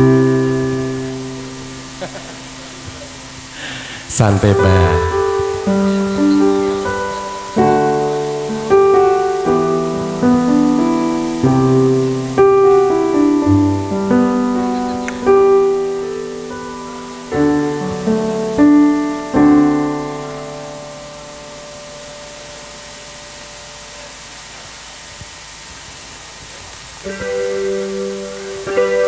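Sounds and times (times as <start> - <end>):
slow gentle piano music: 0.0 - 24.8, 27.0 - 29.0.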